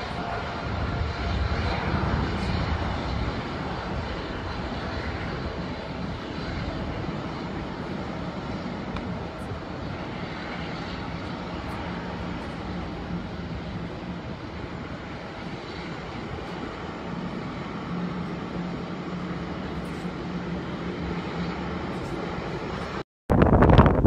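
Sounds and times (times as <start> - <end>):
jet airliner takeoff rumble: 0.0 - 24.0.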